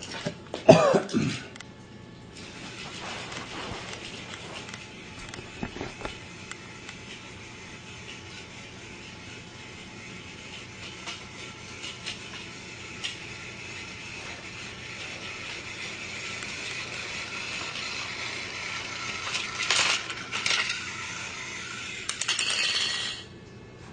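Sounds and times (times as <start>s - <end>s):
geared mechanism whirring rattle: 2.4s - 23.3s.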